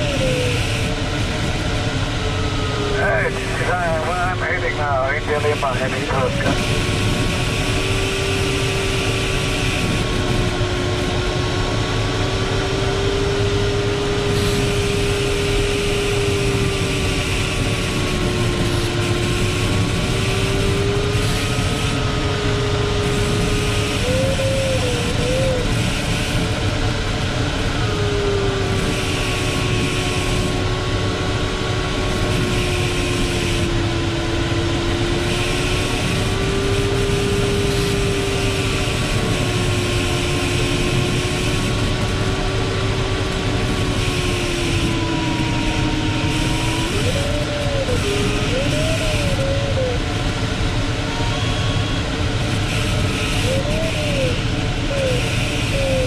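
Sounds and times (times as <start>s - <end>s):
cockpit airflow noise: 0.0s - 56.0s.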